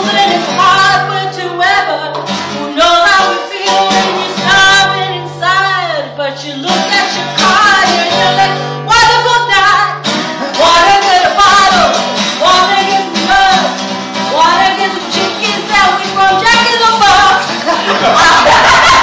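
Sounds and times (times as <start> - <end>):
instrumental backing music: 0.0 - 19.0
woman singing: 0.0 - 19.0.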